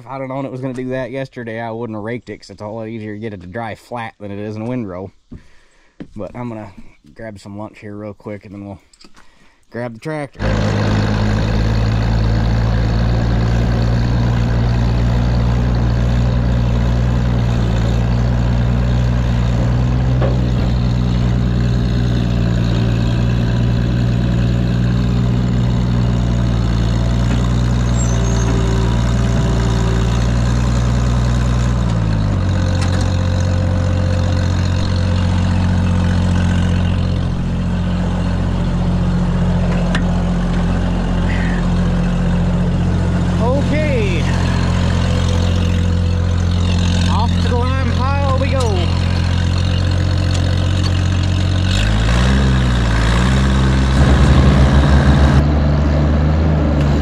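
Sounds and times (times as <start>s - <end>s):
tractor engine running: 10.3s - 57.0s.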